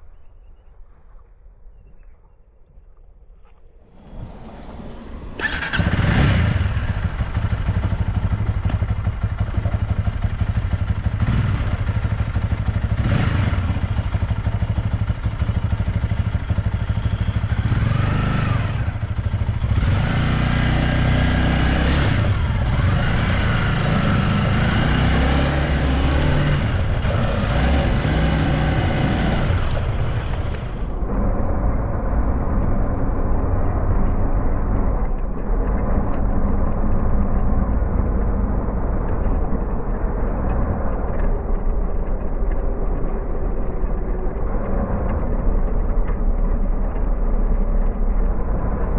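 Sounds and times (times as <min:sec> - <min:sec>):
motorcycle engine accelerating: 0:03.9 - 0:48.9.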